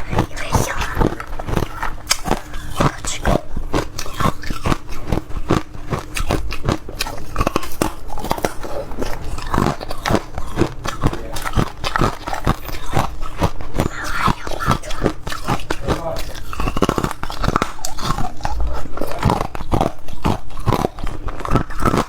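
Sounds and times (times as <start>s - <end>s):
person chewing ice: 0.0s - 22.0s.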